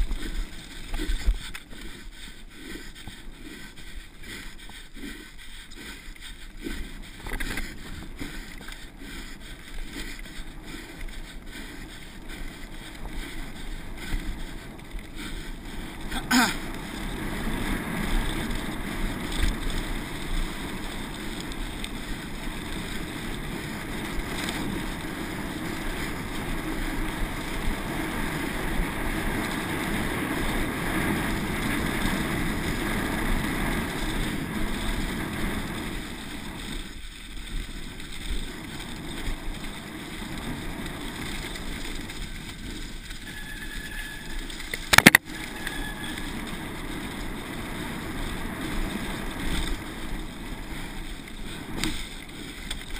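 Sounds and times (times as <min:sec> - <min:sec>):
wind on camera: 0:05.8 - 0:52.9.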